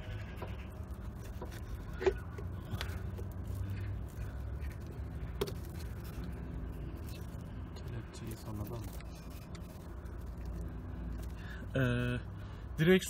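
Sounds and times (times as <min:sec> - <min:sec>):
rubber rubbing and scraping: 0:00.0 - 0:11.4
low steady hum: 0:00.0 - 0:13.0.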